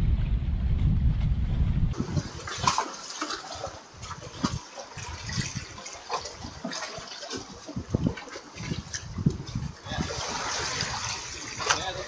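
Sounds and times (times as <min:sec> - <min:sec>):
wind buffeting microphone: 0:00.0 - 0:02.8, 0:03.5 - 0:12.0
seawater sloshing and splashing: 0:01.9 - 0:12.0.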